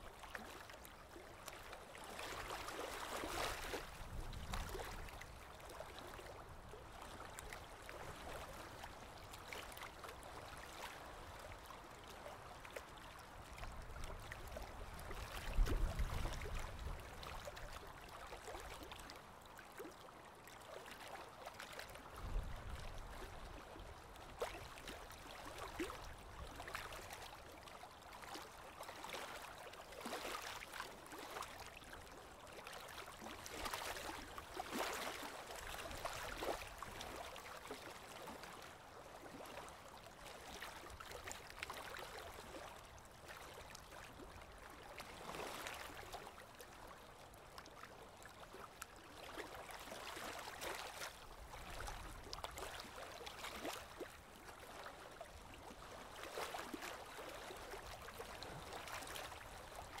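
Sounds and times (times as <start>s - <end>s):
stream water rushing and trickling: 0.0s - 60.0s.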